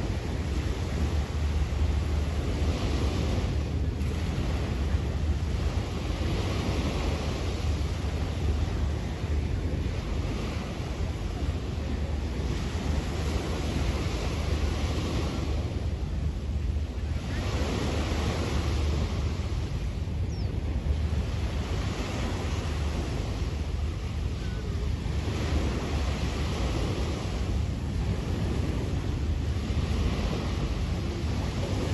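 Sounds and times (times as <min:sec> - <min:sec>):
sea waves washing onto beach: 0:00.0 - 0:31.9
wind rumble on microphone: 0:00.0 - 0:31.9.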